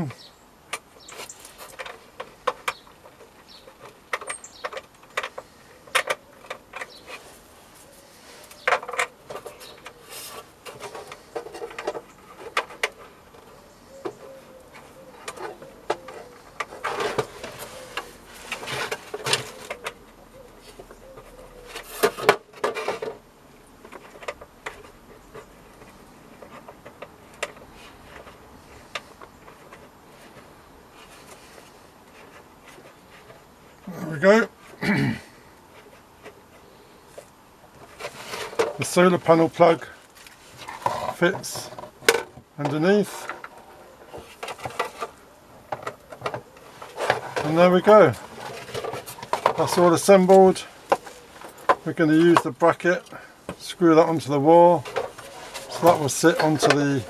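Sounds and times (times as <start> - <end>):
plastic parts clicking and scraping: 0.7 - 34.8, 35.6 - 57.0.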